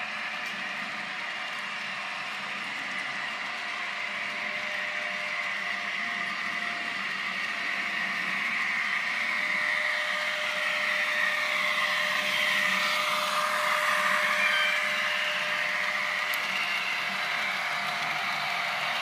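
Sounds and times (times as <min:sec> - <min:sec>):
model train motor whirring: 0:00.0 - 0:19.0
wheels running on rails: 0:00.0 - 0:19.0.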